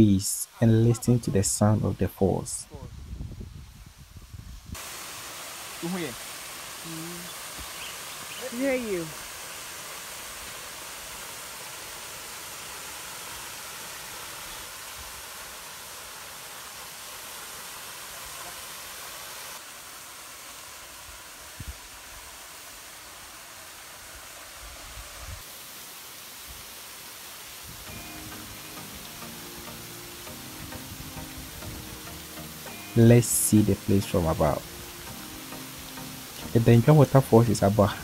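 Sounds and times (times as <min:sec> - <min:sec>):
waterfall rushing: 0:04.8 - 0:38.0.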